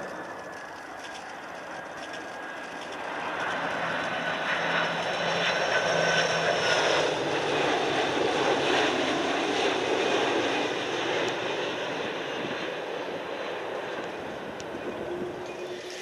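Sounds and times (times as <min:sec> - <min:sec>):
jet engines roaring with whine: 0:00.0 - 0:16.0.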